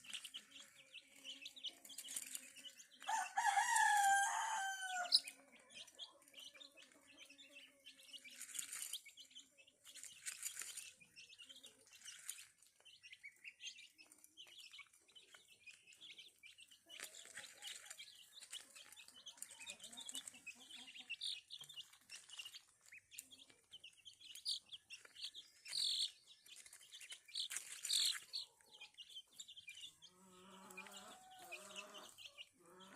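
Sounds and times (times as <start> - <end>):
chicks peeping: 0.0 - 32.9.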